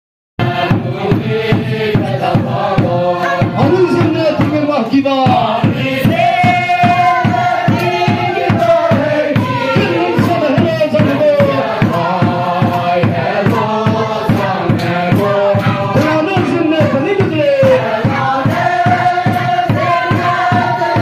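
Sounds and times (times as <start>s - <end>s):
congregation singing a hymn: 0.4s - 21.0s
hand-beaten barrel drum: 0.4s - 21.0s.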